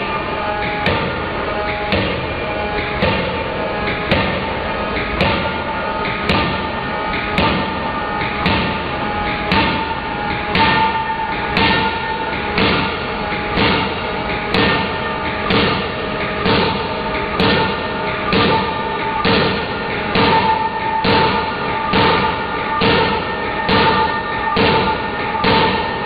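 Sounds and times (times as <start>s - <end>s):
forging hammer heavy thuds: 1.9s - 26.0s.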